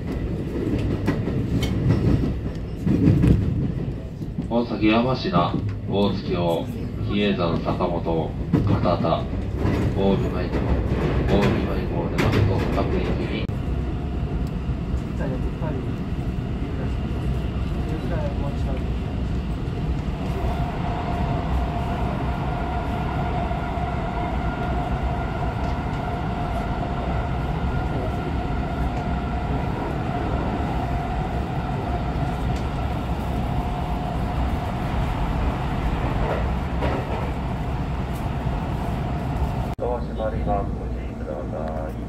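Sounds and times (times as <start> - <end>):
steady train whine: 0.0 - 42.0
train wheels rumbling on rails: 0.0 - 42.0.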